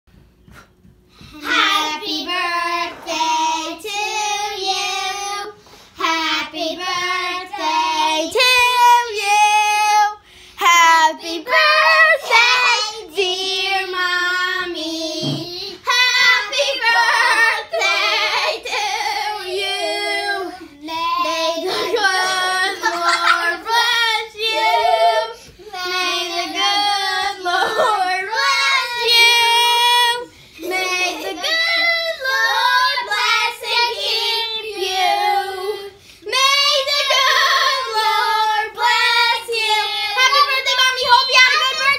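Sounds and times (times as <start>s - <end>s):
child singing: 1.4s - 41.9s.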